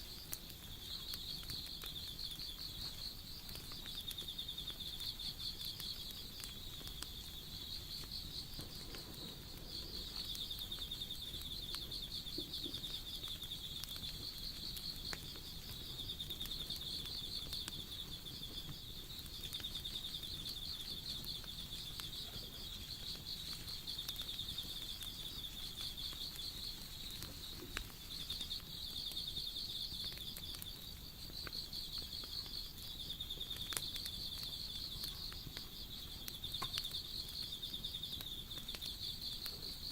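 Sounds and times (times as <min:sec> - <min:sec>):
campfire crackling: 0:00.0 - 0:39.9
insects trilling: 0:00.0 - 0:39.9.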